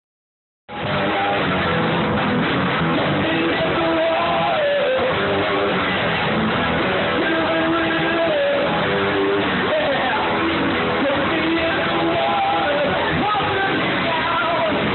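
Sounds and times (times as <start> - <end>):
man singing into a microphone: 0.7 - 1.7, 2.8 - 14.9
drums: 0.7 - 14.9
electric guitar: 0.7 - 14.9.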